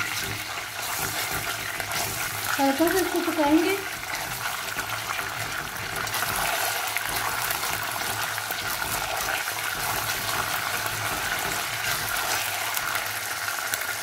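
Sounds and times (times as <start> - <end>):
spatula stirring: 0.0 - 13.9
paste sizzling in hot oil: 0.0 - 14.0.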